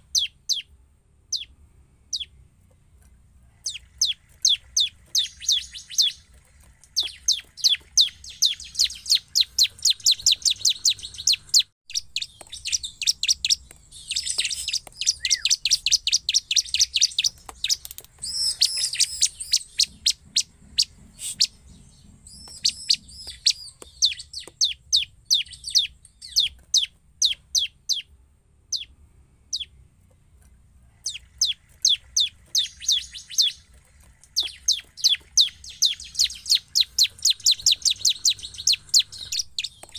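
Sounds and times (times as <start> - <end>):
bird singing high chips: 0.0 - 0.7, 1.3 - 2.4, 3.6 - 28.1, 28.7 - 29.8, 31.0 - 39.9.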